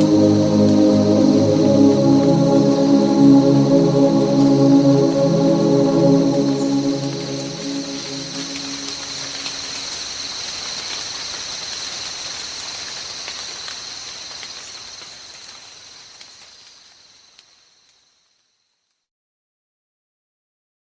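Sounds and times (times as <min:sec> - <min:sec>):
rain hiss: 0:00.0 - 0:18.7.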